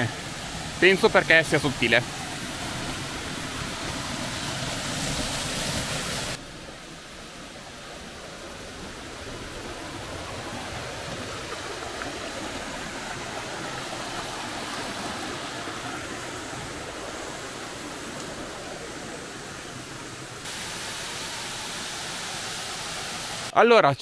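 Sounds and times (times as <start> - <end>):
stream rushing over rocks: 0.0 - 23.5
waterfall rushing: 0.0 - 23.5.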